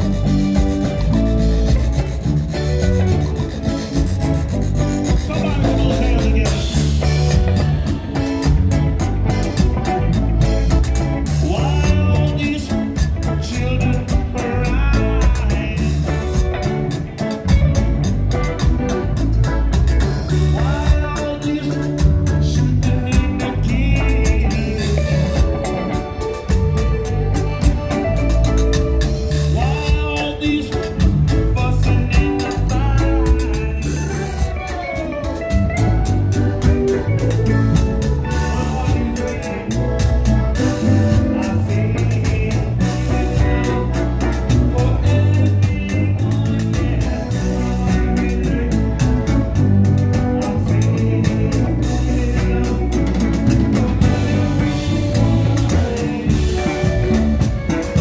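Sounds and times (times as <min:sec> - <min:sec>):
live zydeco band playing: 0:00.0 - 0:58.0.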